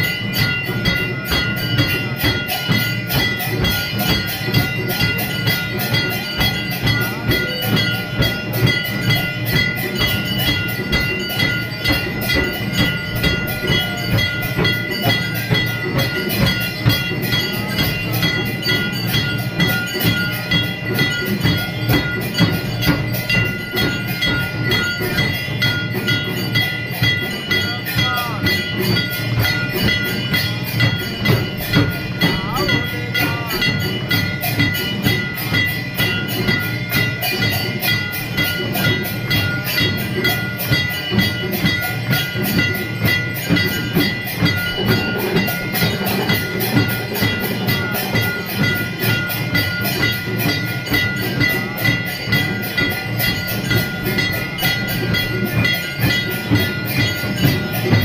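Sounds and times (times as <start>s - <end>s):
bells ringing: 0.0s - 58.0s
fast percussion beats: 0.0s - 58.0s.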